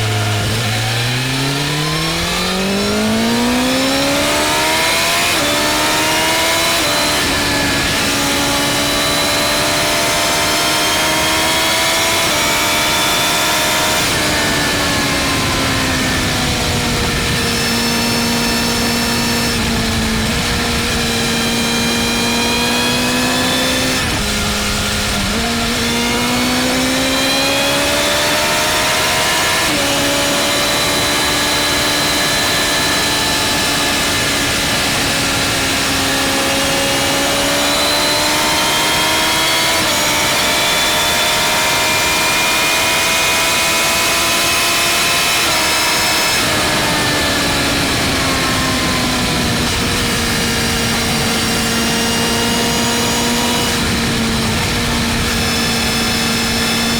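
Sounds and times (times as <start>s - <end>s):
motorcycle engine running hard: 0.0s - 56.9s
wind and road noise: 0.0s - 56.9s.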